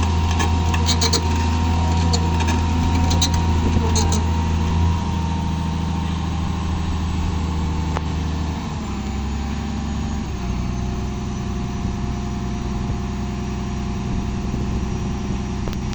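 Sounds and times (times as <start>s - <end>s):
engine running: 0.0s - 15.9s.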